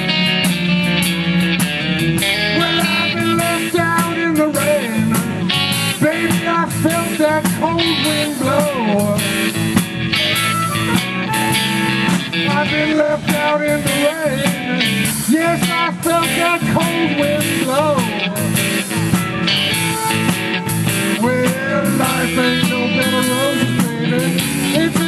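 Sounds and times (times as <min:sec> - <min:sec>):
harmonica: 0:00.0 - 0:15.4, 0:16.4 - 0:25.0
bending electric guitar lead: 0:00.0 - 0:25.0
blues band playing: 0:00.0 - 0:25.0.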